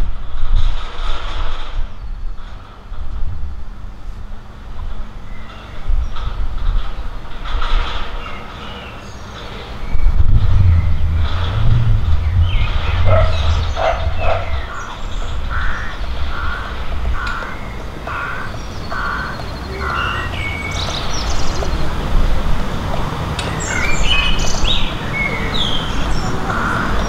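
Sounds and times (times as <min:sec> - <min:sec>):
low rumble of road traffic: 0:00.0 - 0:27.0.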